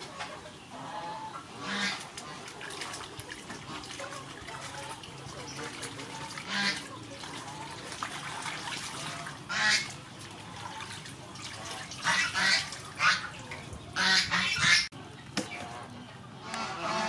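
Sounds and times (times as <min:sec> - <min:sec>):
waterfowl honking: 0:00.0 - 0:03.0, 0:03.6 - 0:14.9, 0:15.5 - 0:17.0.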